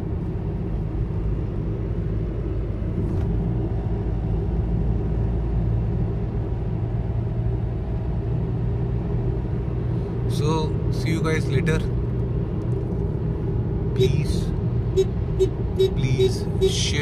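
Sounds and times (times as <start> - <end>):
vehicle cabin road noise: 0.0 - 17.0.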